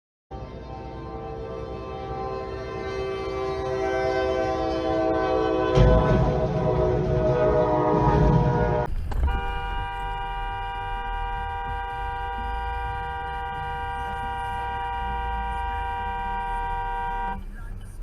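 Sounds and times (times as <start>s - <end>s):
vehicle rumbling: 0.3s - 18.0s
vehicle horn blaring: 0.4s - 17.6s.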